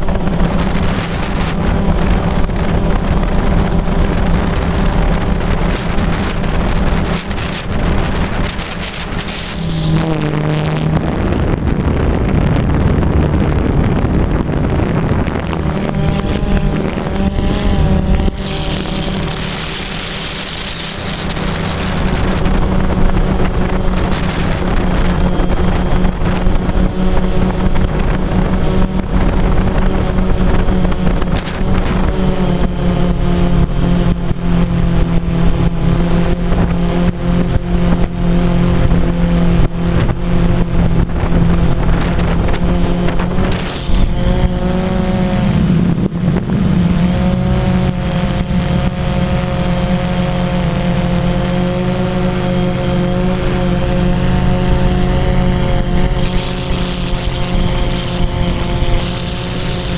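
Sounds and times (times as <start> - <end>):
drone propellers humming: 0.0 - 59.9
wind buffeting microphone: 0.0 - 59.9.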